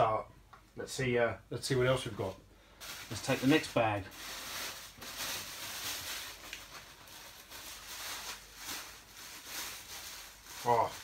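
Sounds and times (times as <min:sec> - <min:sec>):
plastic bag rustling: 0:02.0 - 0:11.0.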